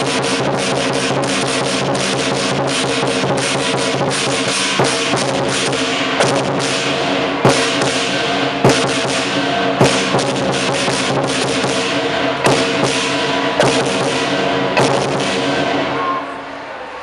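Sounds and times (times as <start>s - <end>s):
heavy accented drum hits: 0.0s - 16.3s
percussion band playing: 0.0s - 16.4s
fast cymbal clashes: 0.0s - 16.8s.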